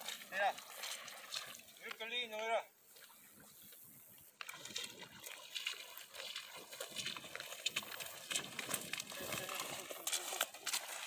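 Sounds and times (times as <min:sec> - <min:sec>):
footsteps through wet grass: 0:00.0 - 0:11.0
stalks rustling against waders: 0:00.0 - 0:11.0.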